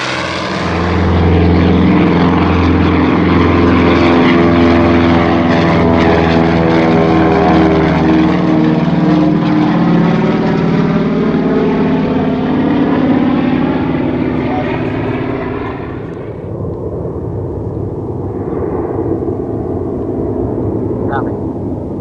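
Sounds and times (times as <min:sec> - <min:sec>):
propeller plane engines drone: 0:00.0 - 0:22.0.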